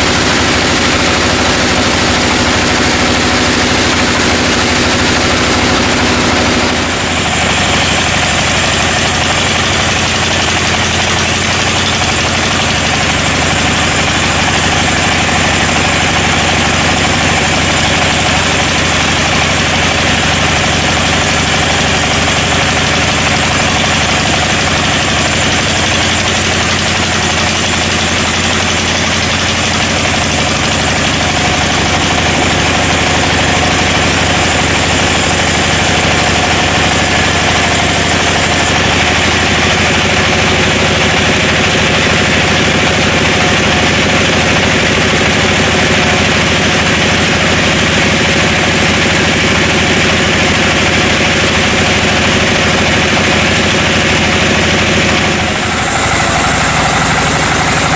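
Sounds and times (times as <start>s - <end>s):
sawmill machinery engine running: 0.0s - 57.9s.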